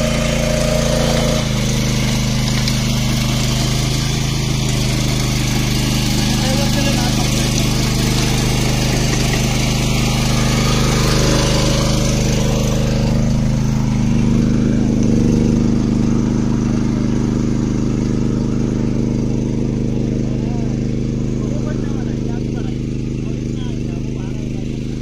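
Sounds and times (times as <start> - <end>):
power tiller engine running: 0.0 - 25.0.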